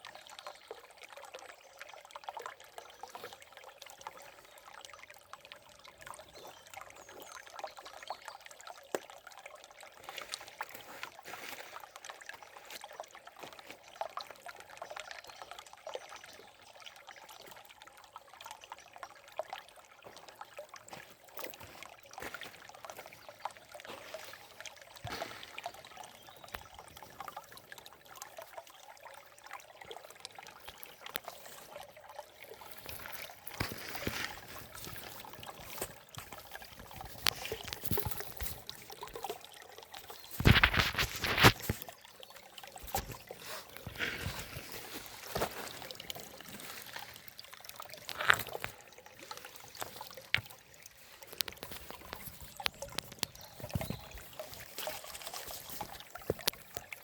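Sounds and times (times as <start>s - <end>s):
river water trickling: 0.0s - 57.0s
small water splashes: 0.0s - 57.0s.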